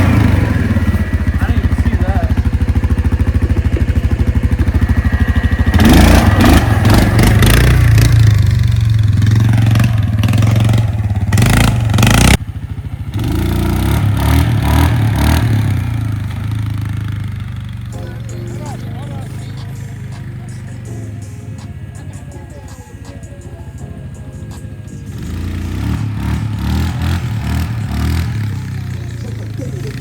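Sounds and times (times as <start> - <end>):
vehicle engine idling and revving: 0.0 - 30.0.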